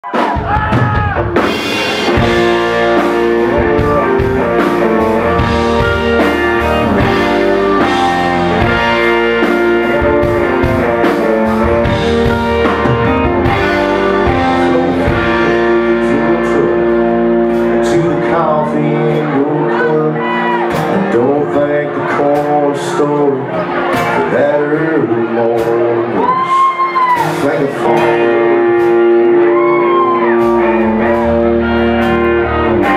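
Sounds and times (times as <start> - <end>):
live country band playing: 0.0 - 32.9.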